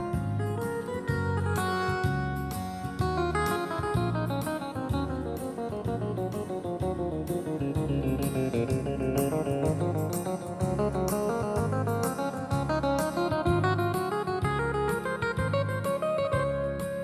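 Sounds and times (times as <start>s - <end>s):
plucked guitar music: 0.0s - 17.0s
steady bass line: 0.0s - 17.0s.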